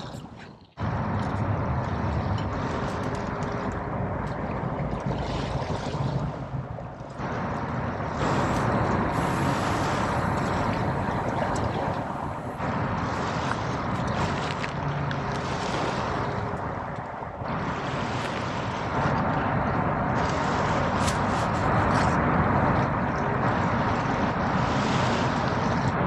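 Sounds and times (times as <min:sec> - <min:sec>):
sea water: 0:00.0 - 0:26.0
wind on microphone: 0:00.0 - 0:26.0.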